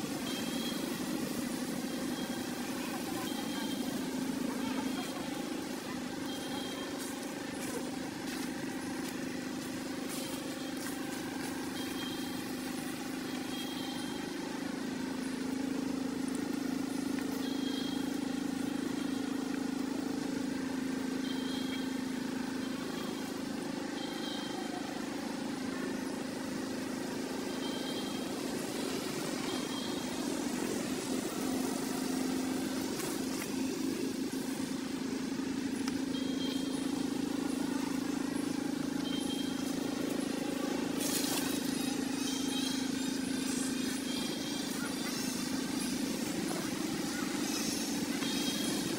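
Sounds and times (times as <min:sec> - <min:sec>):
low engine hum: 0:00.0 - 0:48.9.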